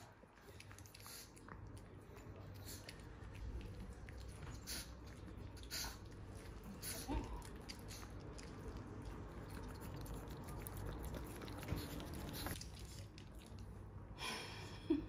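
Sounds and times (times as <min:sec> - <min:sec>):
dog licking and chewing: 0:00.0 - 0:14.1.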